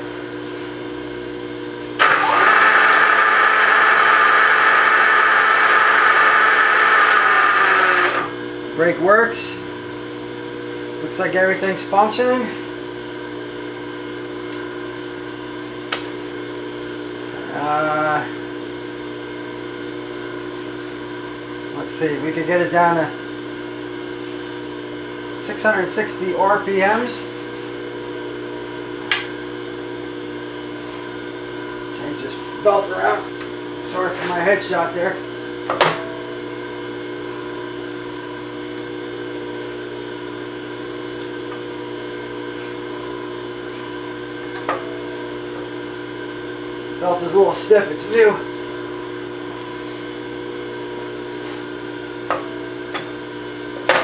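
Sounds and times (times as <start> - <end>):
electric motor hum: 0.0 - 53.9.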